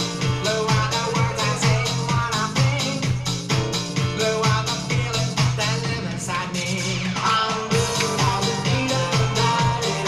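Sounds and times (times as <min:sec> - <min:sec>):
dance music with steady beat: 0:00.0 - 0:10.0.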